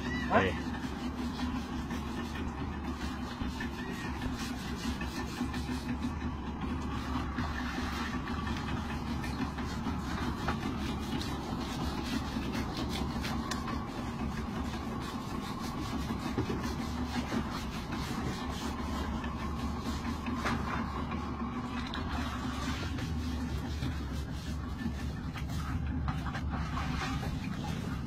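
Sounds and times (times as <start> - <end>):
boat engine idling: 0.0 - 28.0
stiff brush scrubbing shell: 0.0 - 28.0.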